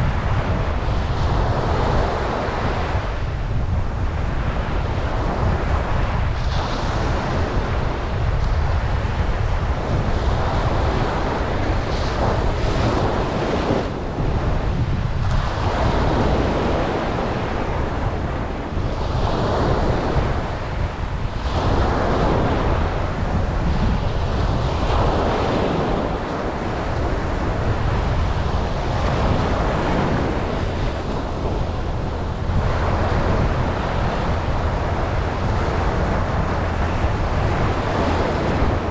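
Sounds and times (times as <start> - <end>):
ocean waves breaking: 0.0 - 38.9
wind buffeting microphone: 0.0 - 38.9.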